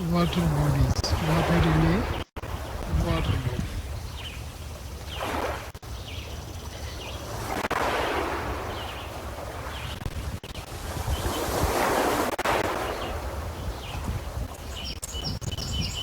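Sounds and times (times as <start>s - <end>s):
waves splashing on shore: 0.0s - 15.1s
wind rumble on microphone: 0.0s - 16.0s.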